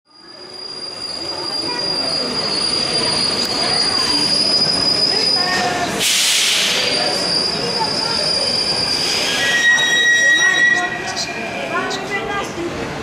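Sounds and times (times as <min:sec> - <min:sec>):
high-pitched squeal: 0:00.1 - 0:11.7
metro train rumble: 0:00.1 - 0:13.0.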